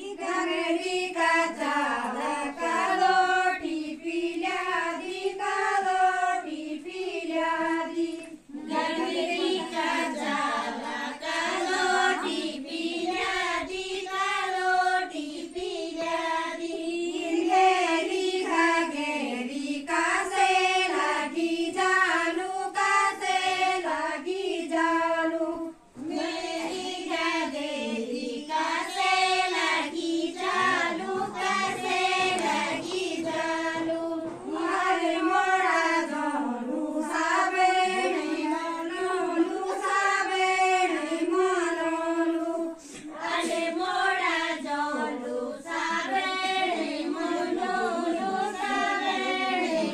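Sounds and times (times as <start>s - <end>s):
women singing in unison: 0.0s - 49.9s.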